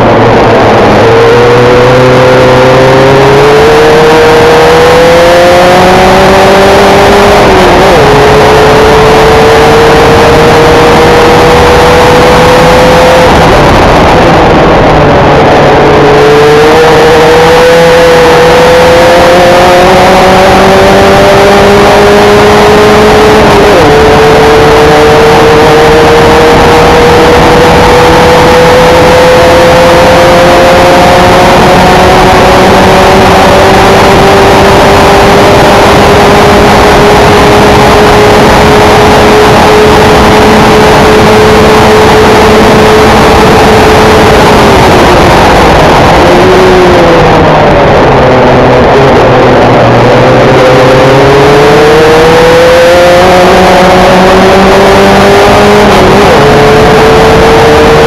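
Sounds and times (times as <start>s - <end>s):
racing car engine at full throttle: 0.0s - 58.0s.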